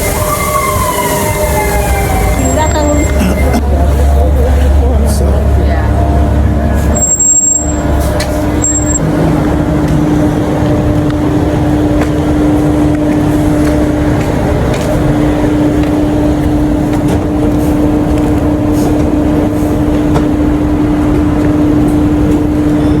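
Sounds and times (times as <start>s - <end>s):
vehicle engine rumble: 1.5s - 23.0s.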